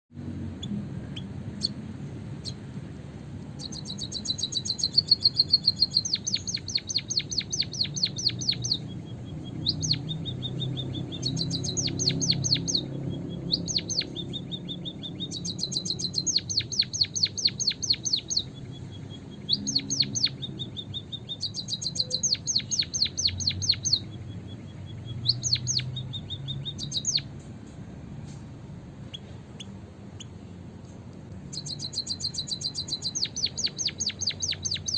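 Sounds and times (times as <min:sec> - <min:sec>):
bird chirping rapidly: 0:00.4 - 0:30.6, 0:31.4 - 0:34.9.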